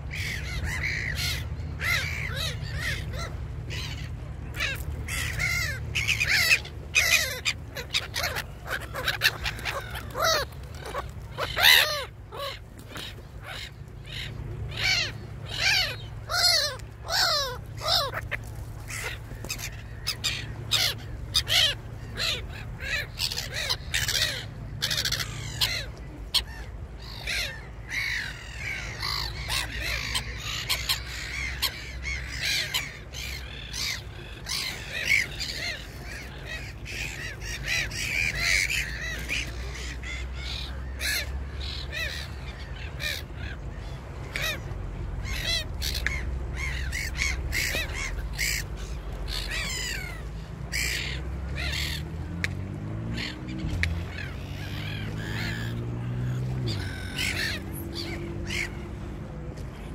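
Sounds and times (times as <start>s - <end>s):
birds calling: 0.0s - 59.9s
small waves lapping on shore: 0.0s - 59.9s.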